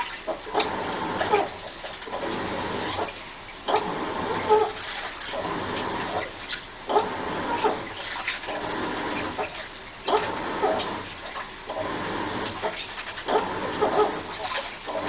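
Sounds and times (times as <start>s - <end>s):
water sloshing in drum: 0.0s - 15.0s.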